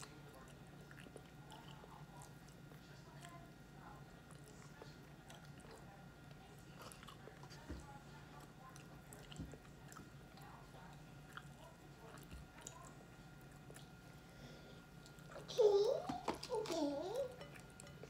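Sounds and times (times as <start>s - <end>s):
chewing fried chicken: 0.0s - 15.5s, 16.3s - 18.0s.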